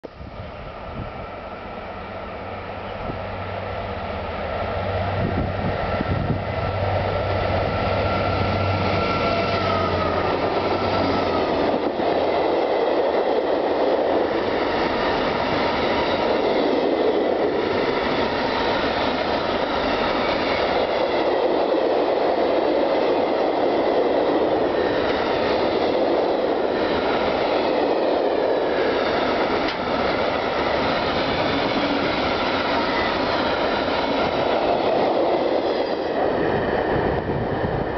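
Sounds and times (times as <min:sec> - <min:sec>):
wheel-on-rail noise: 0:05.2 - 0:37.9.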